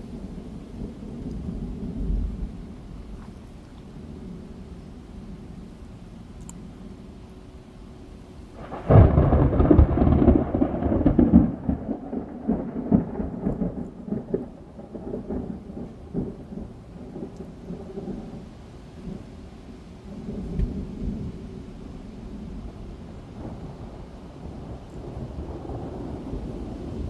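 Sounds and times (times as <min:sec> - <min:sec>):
thunder crackling and rumbling: 0:00.0 - 0:07.1, 0:08.5 - 0:27.0.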